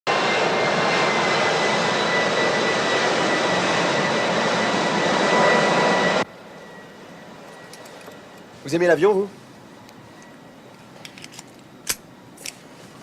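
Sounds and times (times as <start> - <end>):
jet airliner engines running: 0.1 - 13.0.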